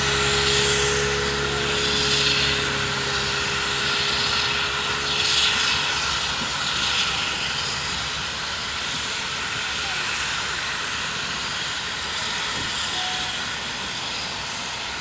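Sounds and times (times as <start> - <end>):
steam locomotives working hard: 0.0 - 15.0.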